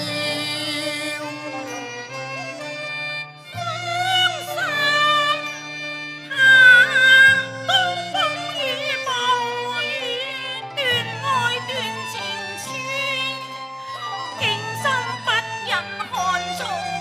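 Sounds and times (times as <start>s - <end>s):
opera music ensemble: 0.0s - 17.0s.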